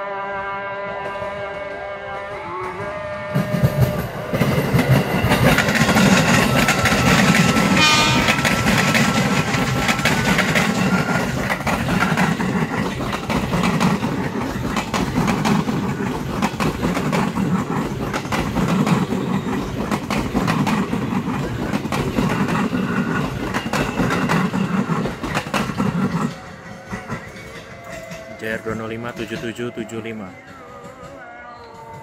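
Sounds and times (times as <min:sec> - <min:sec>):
train passing rumble: 0:00.8 - 0:32.0
wheels clicking over rail joints: 0:03.4 - 0:32.0.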